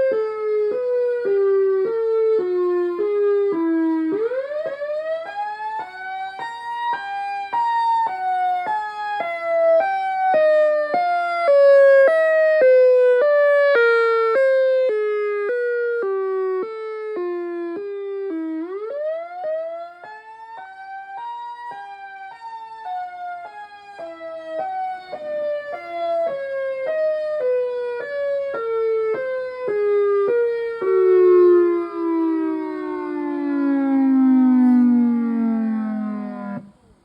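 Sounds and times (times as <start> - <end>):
warning siren alternating wail: 0.0 - 37.0.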